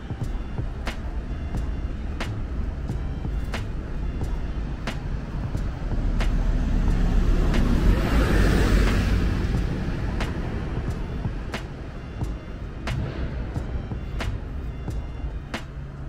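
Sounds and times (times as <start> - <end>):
bus passing by: 0.0 - 16.0
low traffic rumble: 0.0 - 16.0.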